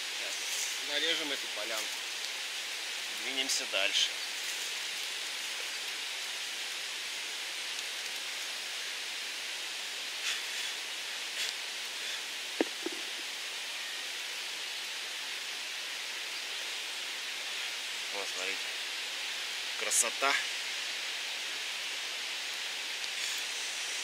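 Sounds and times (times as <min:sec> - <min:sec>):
forest ambience hiss: 0:00.0 - 0:24.0.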